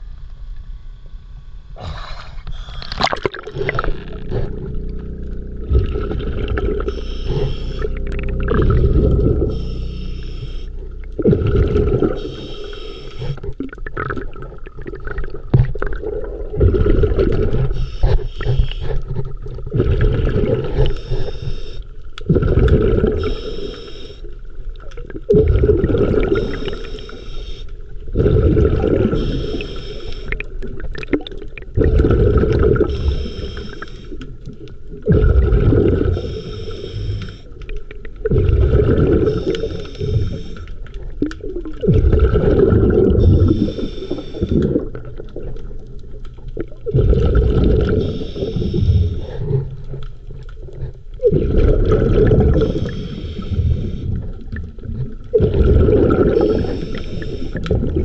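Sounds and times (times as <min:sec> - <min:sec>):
exhaled bubbles underwater: 0:01.7 - 0:58.0.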